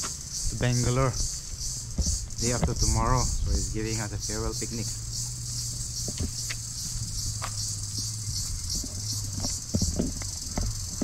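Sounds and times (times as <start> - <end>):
footsteps on gravel path: 0.0 - 11.0
high-pitched hiss: 0.0 - 11.0.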